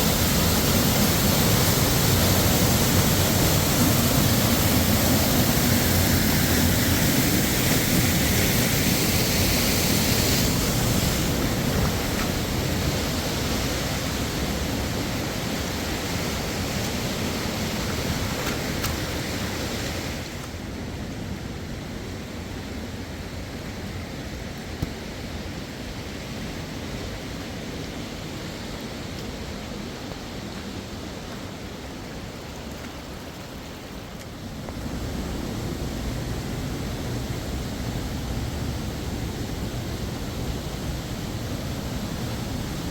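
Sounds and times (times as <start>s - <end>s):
steady rushing noise: 0.0s - 32.4s, 34.3s - 42.9s.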